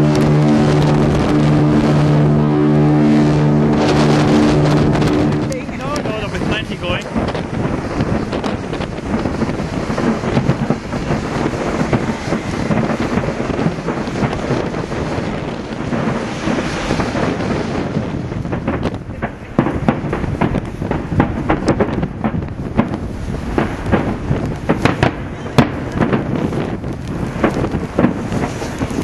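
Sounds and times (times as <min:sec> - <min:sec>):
fireworks bangs and crackles: 0:00.0 - 0:29.0
wind buffeting microphone: 0:00.0 - 0:29.0.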